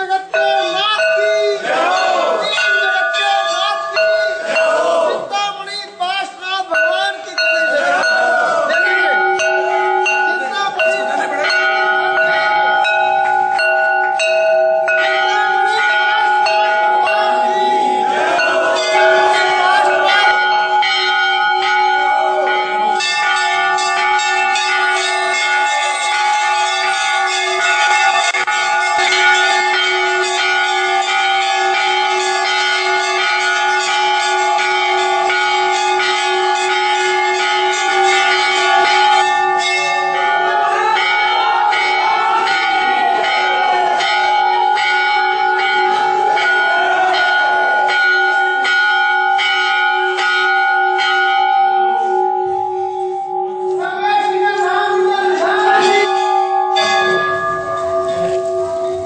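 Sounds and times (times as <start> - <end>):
voices chanting: 0.0 - 33.3, 33.9 - 48.8
bells ringing rapidly: 0.0 - 59.0.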